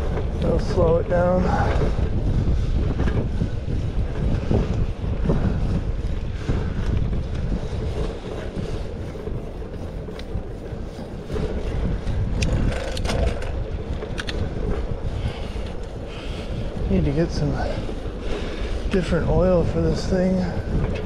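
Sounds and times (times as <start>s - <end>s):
bicycle tyres on asphalt: 0.0s - 21.0s
wind rushing over microphone: 0.0s - 21.0s.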